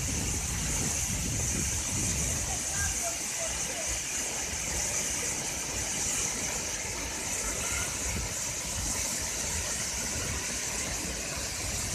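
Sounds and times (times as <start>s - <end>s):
waterfall pouring onto boulders: 0.0s - 11.9s.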